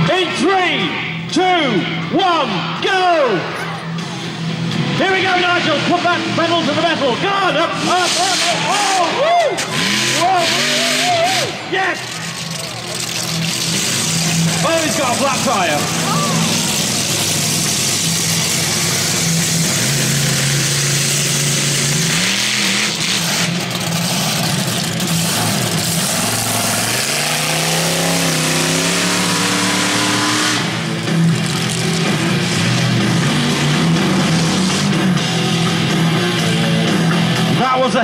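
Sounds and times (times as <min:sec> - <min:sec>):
truck engines idling and revving: 0:00.0 - 0:38.0.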